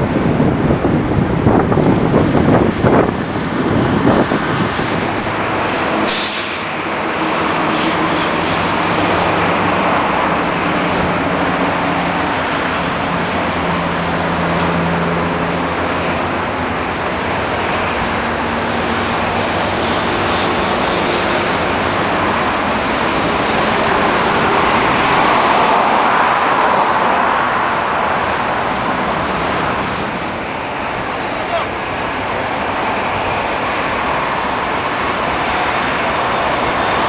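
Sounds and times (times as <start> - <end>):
jet airliner roar: 0.0 - 37.0
vehicle engine low hum: 0.0 - 37.0.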